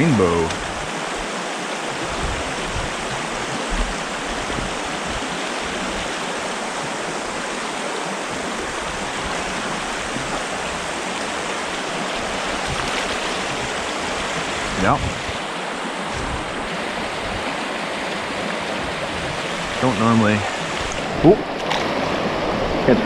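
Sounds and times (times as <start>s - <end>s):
stream water rushing and burbling: 0.0s - 23.0s.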